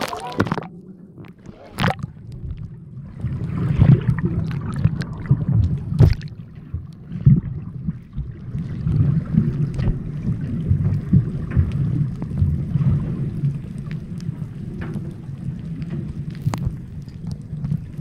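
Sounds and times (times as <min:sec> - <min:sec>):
underwater rumble of moving water: 0:00.0 - 0:18.0.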